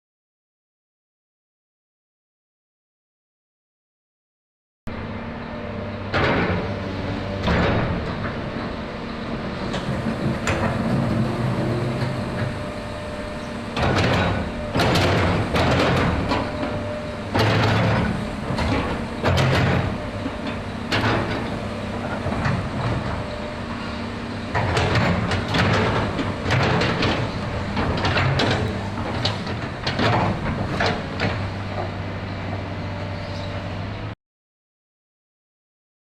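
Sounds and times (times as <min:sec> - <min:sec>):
excavator diesel engine running: 0:04.9 - 0:34.2.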